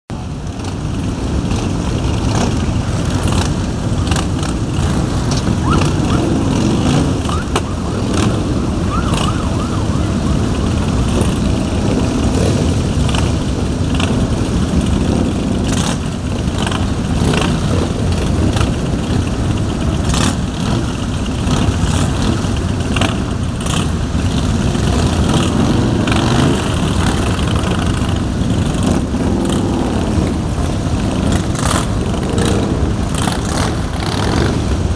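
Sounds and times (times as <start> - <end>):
motorcycle engines riding past: 0.2 - 34.9.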